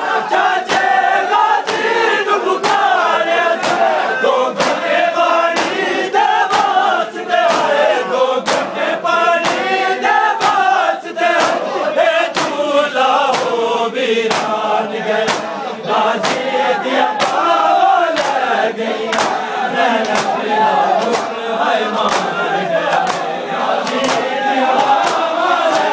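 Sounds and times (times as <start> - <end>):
men chanting in unison: 0.0 - 25.9
hands slapping chests: 0.6 - 4.9, 5.5 - 11.7, 12.3 - 13.6, 14.3 - 15.6, 16.2 - 18.5, 19.1 - 25.9.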